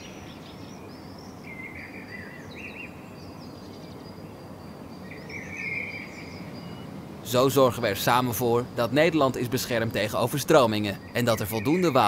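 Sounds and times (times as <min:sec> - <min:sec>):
birds chirping: 0:00.0 - 0:12.0
low background hiss: 0:00.0 - 0:12.0.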